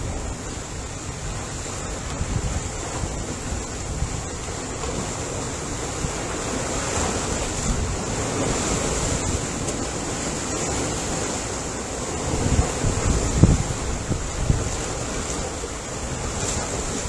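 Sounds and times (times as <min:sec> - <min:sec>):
low gusty buffeting: 0:00.0 - 0:17.0
ocean waves washing on shore: 0:00.0 - 0:17.0.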